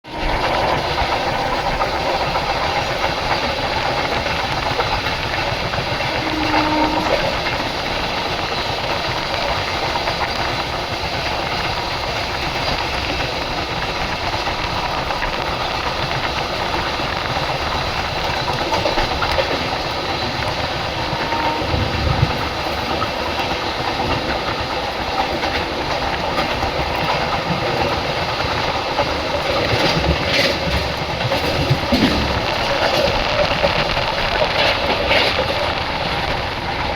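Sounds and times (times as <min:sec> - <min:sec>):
train rumbling on rails: 0:00.0 - 0:36.9.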